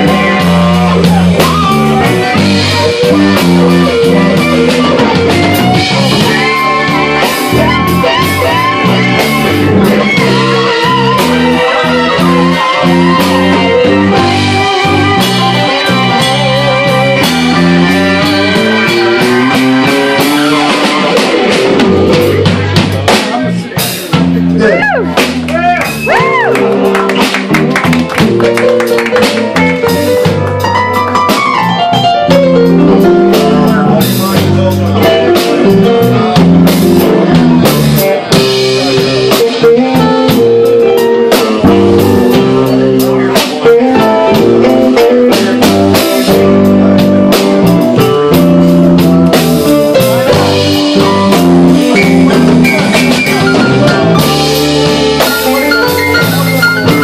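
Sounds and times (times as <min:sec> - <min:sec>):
live blues band playing: 0:00.0 - 0:57.0.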